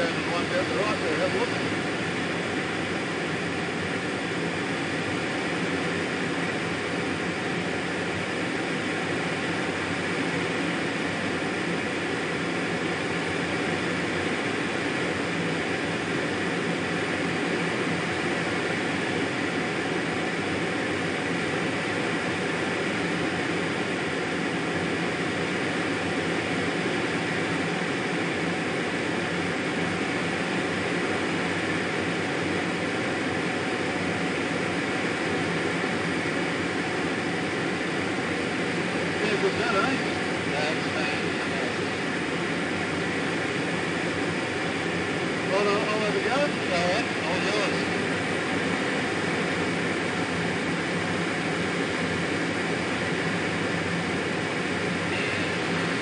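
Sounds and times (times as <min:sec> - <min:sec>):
faint jet engine whine: 0:00.0 - 0:56.0.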